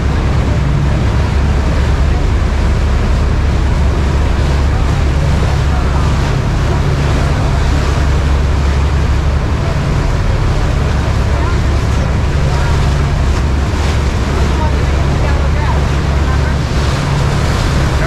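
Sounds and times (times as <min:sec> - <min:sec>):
boat engine low rumble: 0:00.0 - 0:18.0
churning river water: 0:00.0 - 0:18.0
wind buffeting microphone: 0:00.0 - 0:18.0.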